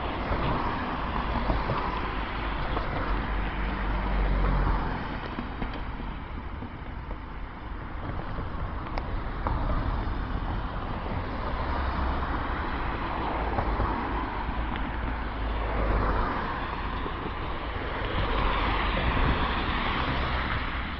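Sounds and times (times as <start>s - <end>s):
cars driving past: 0.0s - 20.9s.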